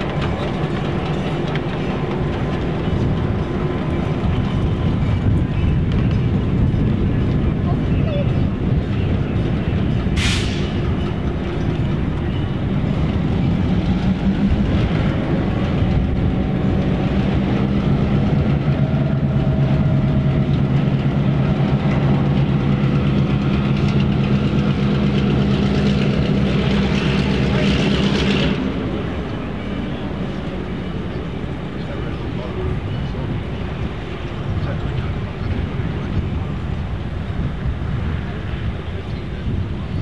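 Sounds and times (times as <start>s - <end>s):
diesel locomotive engine hum: 0.0s - 40.0s.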